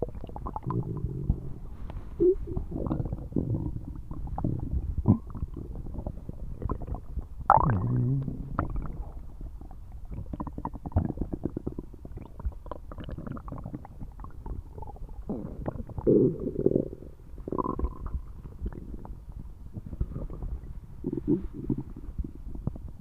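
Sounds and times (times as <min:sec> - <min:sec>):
stomach growl: 0:00.0 - 0:23.0
stomach gurgling: 0:00.0 - 0:23.0.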